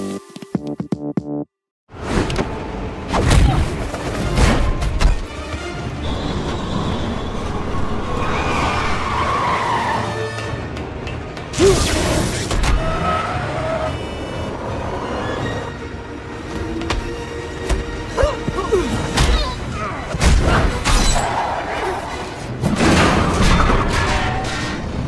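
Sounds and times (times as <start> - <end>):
action film music: 2.4 - 25.0.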